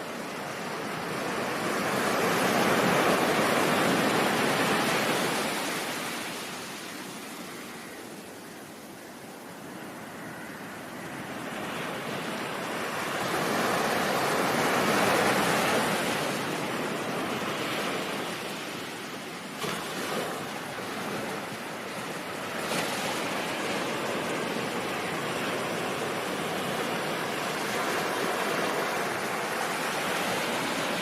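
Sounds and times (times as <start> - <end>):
ocean waves washing: 0.0 - 31.0.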